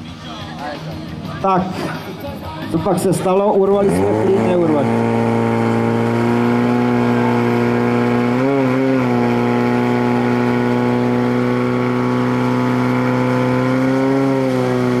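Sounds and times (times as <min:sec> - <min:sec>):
pump engine droning: 0:02.6 - 0:15.0.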